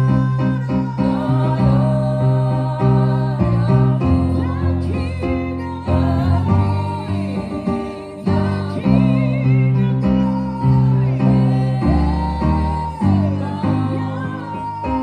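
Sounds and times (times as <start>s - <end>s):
person singing with vibrato: 0.0s - 15.0s
sustained bass notes: 0.0s - 15.0s.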